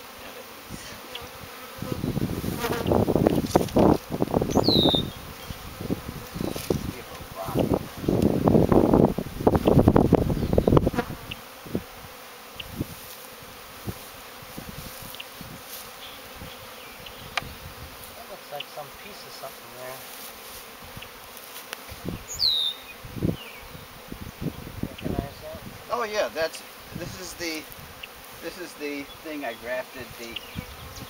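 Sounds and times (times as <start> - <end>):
honey bees buzzing: 0.0 - 31.0.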